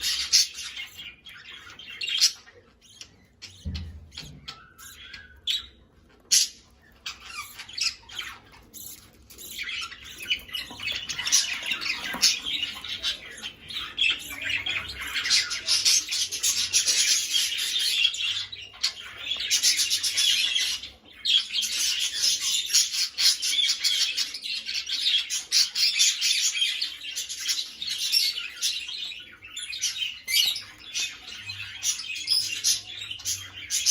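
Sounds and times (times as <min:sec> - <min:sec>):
budgerigars squawking and warbling: 0:00.0 - 0:33.9.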